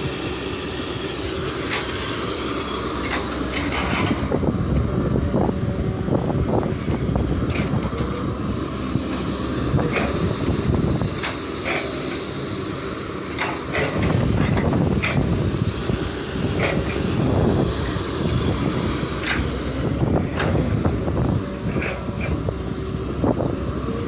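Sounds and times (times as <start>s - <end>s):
excavator diesel engine under load: 0.0s - 24.0s.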